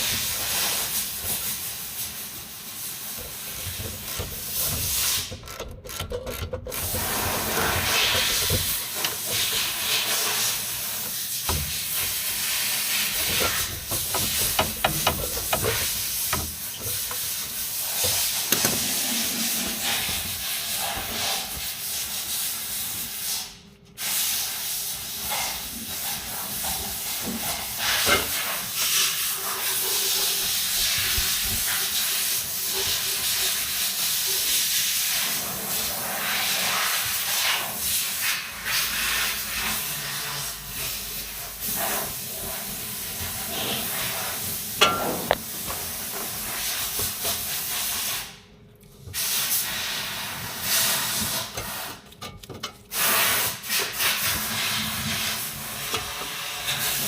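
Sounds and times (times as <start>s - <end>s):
loud steady hiss: 0.0s - 5.4s, 6.8s - 48.5s.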